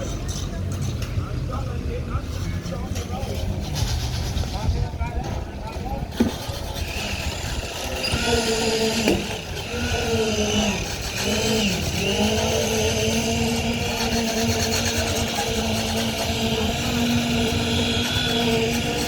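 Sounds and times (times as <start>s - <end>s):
heavy machinery engine under load: 0.0s - 19.0s.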